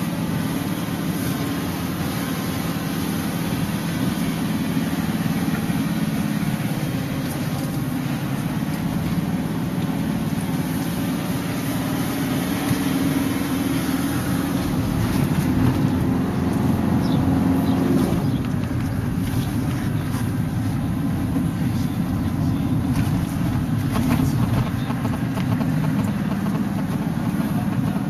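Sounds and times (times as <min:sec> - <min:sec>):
tyre noise on paved road: 0:00.0 - 0:28.0
van engine from inside cabin: 0:00.0 - 0:28.0.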